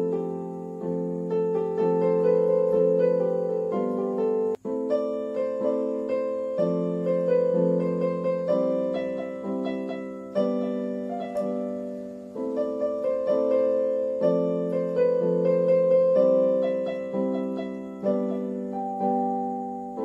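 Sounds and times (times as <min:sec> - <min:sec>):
gentle keyboard tune: 0:00.0 - 0:20.0.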